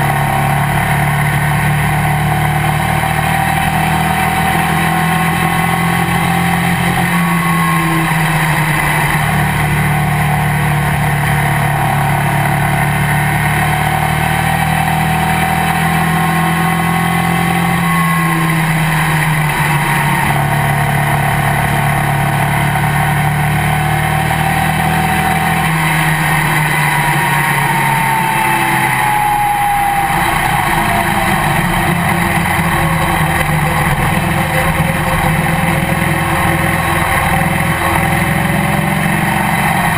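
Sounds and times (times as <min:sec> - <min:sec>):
falling whine: 0:00.0 - 0:39.9
motorcycle engine running at speed: 0:00.0 - 0:39.9.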